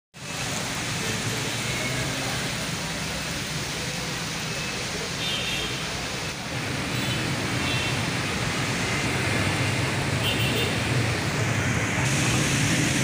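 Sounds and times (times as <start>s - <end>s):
heavy rain hissing: 0.2s - 13.0s
road traffic rumble: 0.2s - 13.0s.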